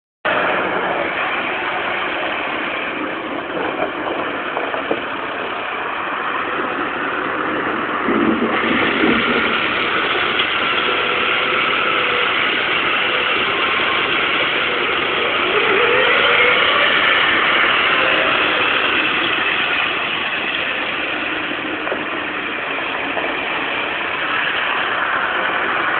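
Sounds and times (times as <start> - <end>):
tractor diesel engine running: 0.2 - 25.9.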